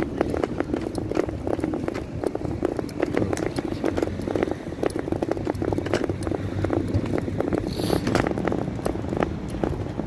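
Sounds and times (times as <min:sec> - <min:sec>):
small wheels rattling on paving: 0:00.0 - 0:10.0.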